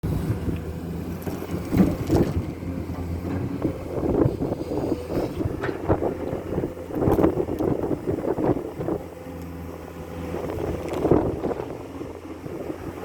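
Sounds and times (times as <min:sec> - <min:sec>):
excavator diesel engine running: 0:00.1 - 0:13.0.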